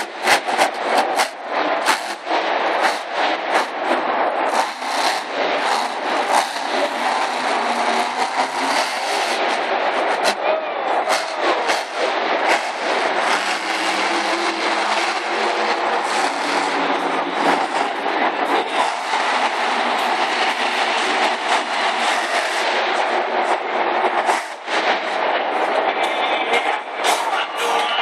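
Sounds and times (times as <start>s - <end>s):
truck engine roaring: 0.0s - 28.0s.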